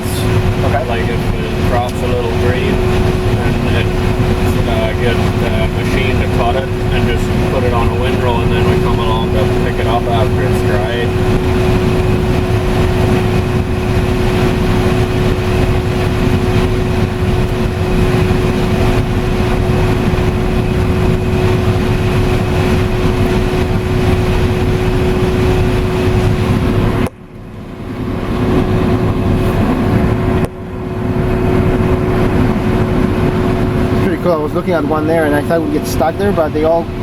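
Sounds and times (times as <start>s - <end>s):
combine harvester drone: 0.0s - 37.0s.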